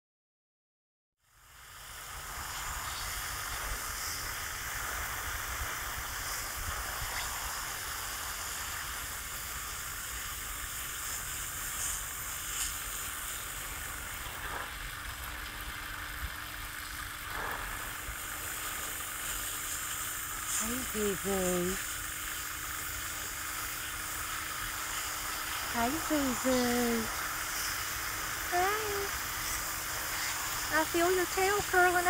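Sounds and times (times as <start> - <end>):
sprinkler spray hissing: 1.2 - 32.0
droplets falling on straw: 1.4 - 32.0.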